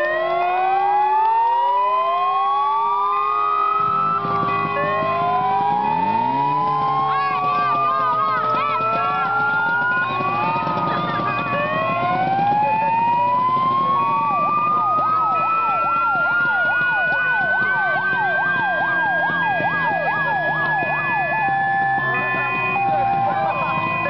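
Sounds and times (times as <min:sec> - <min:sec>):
siren sweeping rapidly: 0:00.0 - 0:24.0
siren wail rising slowly: 0:00.0 - 0:24.0.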